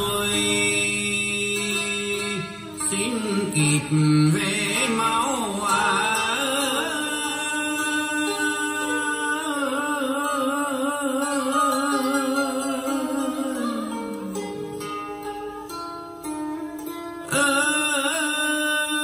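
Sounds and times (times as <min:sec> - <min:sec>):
man singing with vibrato: 0:00.0 - 0:15.4, 0:17.2 - 0:19.0
instrumental accompaniment: 0:00.0 - 0:19.0.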